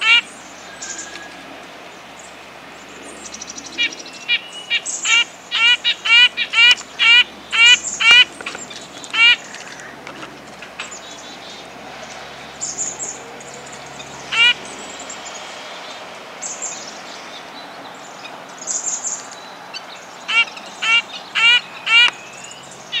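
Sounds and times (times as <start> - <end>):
nuthatch nasal calls: 0.0 - 1.6, 2.8 - 10.0, 10.9 - 17.0, 18.6 - 23.0.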